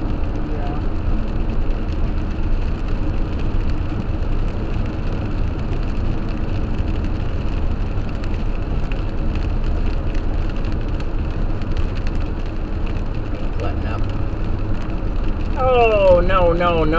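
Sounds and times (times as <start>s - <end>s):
raindrops ticking on windshield: 0.0s - 16.9s
tyre and road noise: 0.0s - 16.9s.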